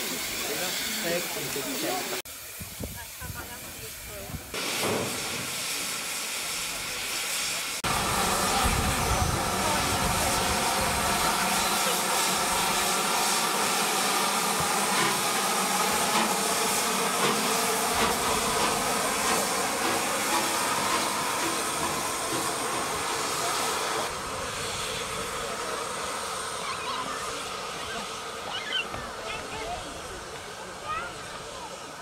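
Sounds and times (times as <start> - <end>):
steam locomotive hissing steam: 0.0 - 32.0.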